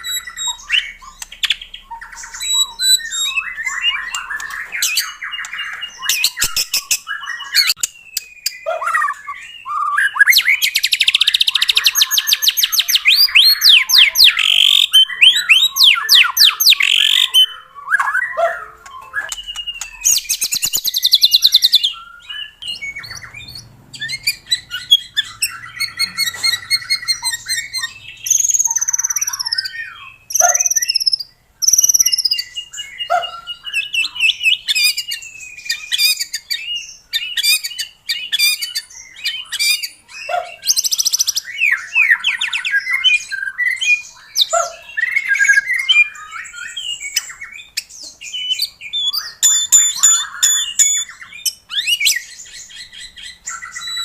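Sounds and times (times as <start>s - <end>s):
songbird singing varied song: 0.0s - 54.0s.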